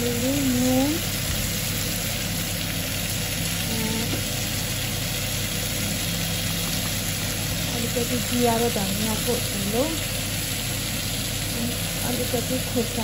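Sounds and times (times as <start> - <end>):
tomatoes sizzling in a pan: 0.0 - 13.0.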